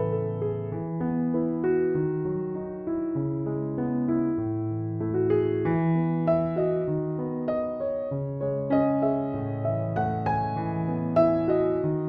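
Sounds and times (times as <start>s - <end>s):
soft electric piano music: 0.0s - 12.0s.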